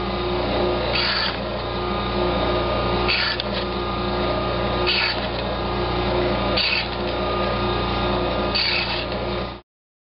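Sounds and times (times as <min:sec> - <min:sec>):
bandsaw cutting wood: 0:00.0 - 0:09.6
bandsaw running: 0:00.0 - 0:09.6.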